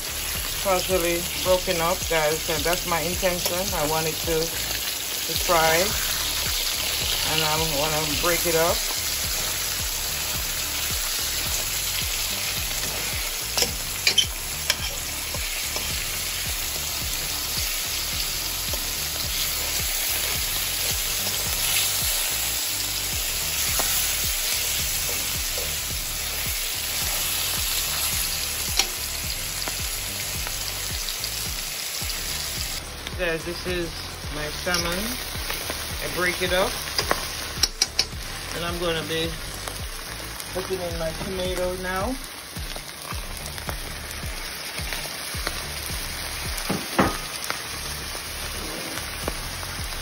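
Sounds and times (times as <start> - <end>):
fish sizzling in oil: 0.0 - 50.0.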